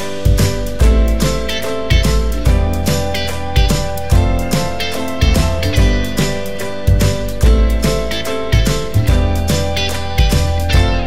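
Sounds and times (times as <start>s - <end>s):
plucked notes: 0.0s - 11.0s
deep bass notes: 0.2s - 11.0s.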